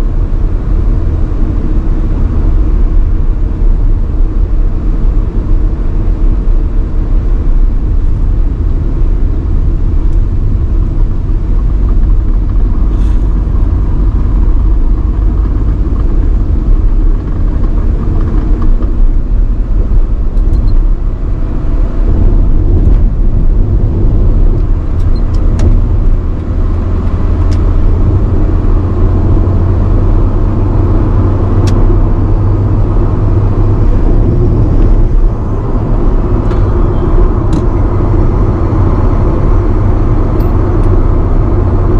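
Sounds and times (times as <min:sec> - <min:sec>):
car engine drone: 0:00.0 - 0:41.9
road noise: 0:00.0 - 0:41.9.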